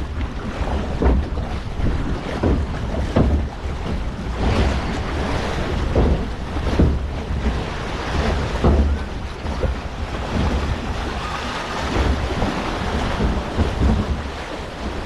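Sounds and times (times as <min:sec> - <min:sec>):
rushing splashing water: 0:00.0 - 0:15.0
wind buffeting microphone: 0:00.0 - 0:15.0.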